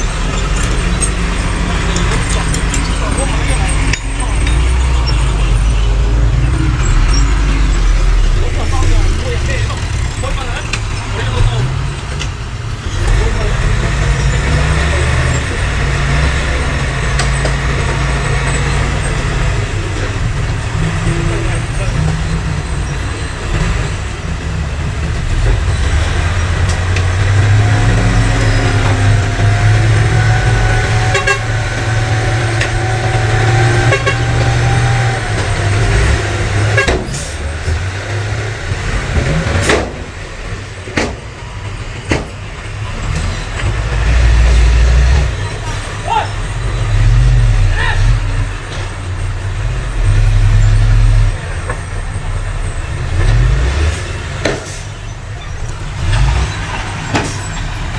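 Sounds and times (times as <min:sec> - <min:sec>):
heavy diesel engine droning: 0:00.0 - 0:57.9
machinery knocks and clanks: 0:00.0 - 0:57.9.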